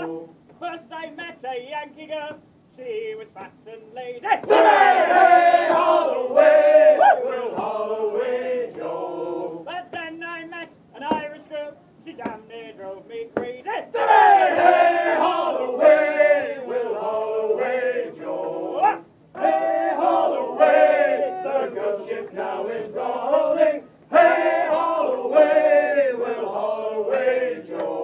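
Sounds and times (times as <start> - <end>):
men singing in unison: 0.0 - 0.4, 4.1 - 28.0.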